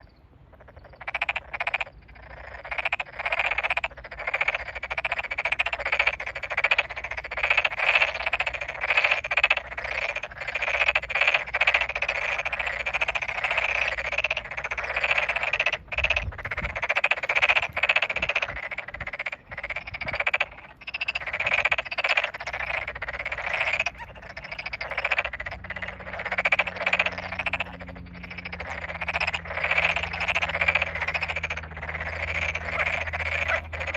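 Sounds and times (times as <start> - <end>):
chorus of frogs croaking: 0.0 - 33.9.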